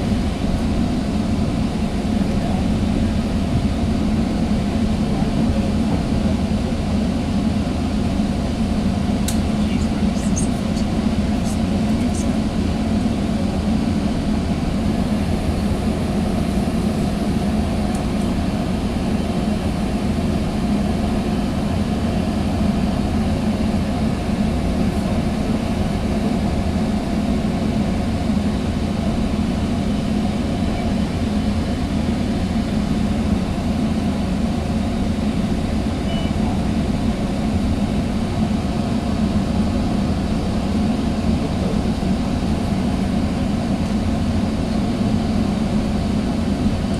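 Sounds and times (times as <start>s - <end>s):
train coach interior rumble: 0.0s - 46.9s.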